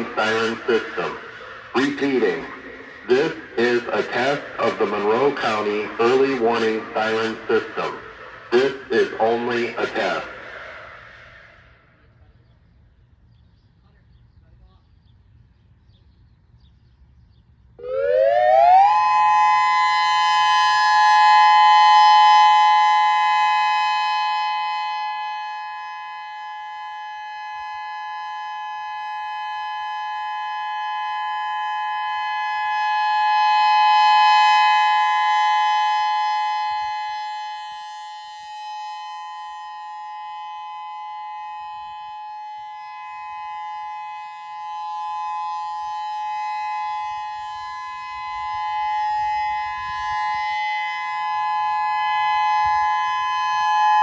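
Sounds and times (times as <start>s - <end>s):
two-note warning siren wail: 0.0s - 10.6s, 17.8s - 54.0s.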